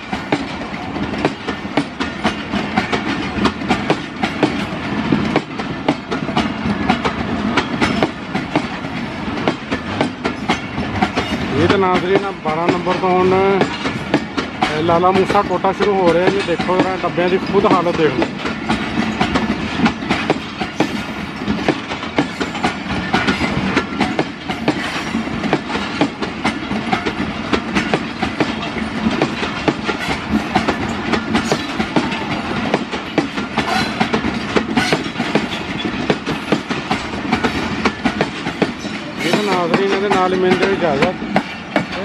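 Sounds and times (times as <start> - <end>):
train wheels rumbling on rail: 0.0 - 42.0
wheels clattering over rail joints: 0.0 - 42.0.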